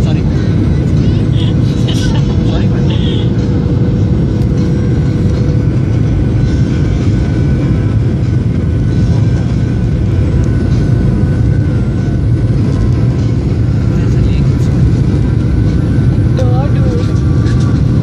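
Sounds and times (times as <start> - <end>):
jet cabin engine rumble: 0.0 - 18.0.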